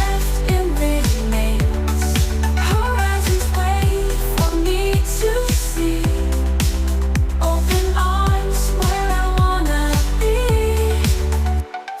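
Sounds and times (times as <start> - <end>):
deep kick drum: 0.0 - 11.4
electronic music: 0.0 - 12.0.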